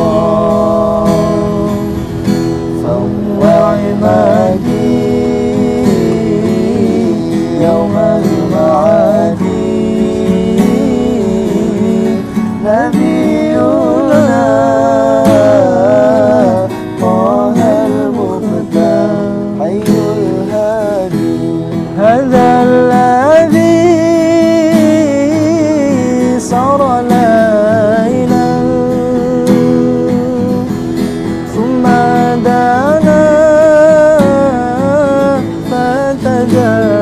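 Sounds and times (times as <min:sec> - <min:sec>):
person singing: 0:00.0 - 0:21.2, 0:21.9 - 0:37.0
acoustic guitar strummed: 0:00.0 - 0:37.0.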